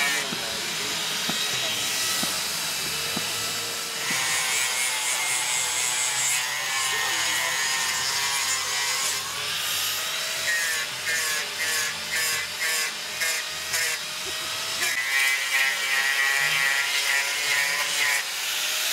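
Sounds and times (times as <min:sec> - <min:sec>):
chainsaw cutting wood: 0:00.0 - 0:18.9.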